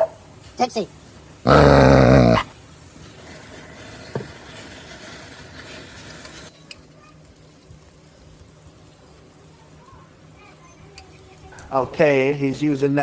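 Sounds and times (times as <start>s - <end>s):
food sizzling: 0.0s - 12.2s.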